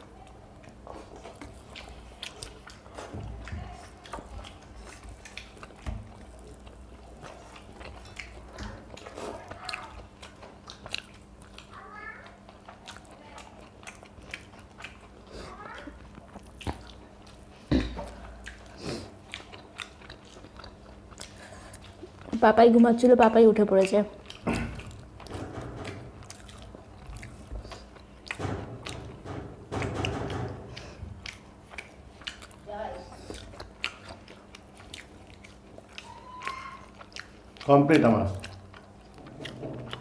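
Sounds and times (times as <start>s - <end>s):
people chewing: 0.0s - 40.0s.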